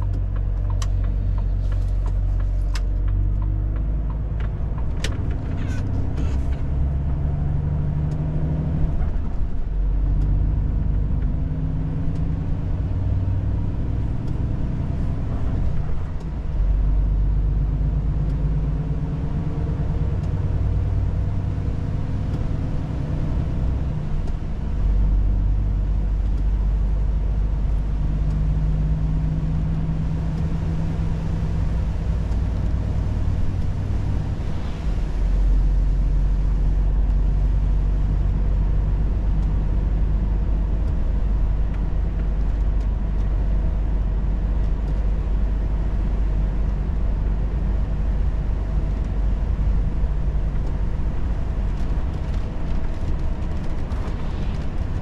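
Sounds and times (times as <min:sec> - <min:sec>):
truck diesel engine from inside cab: 0:00.0 - 0:55.0.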